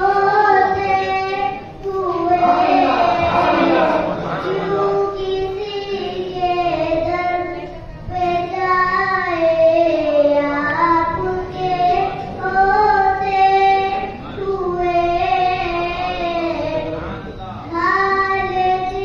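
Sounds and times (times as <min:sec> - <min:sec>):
boy singing into a microphone: 0:00.0 - 0:19.0.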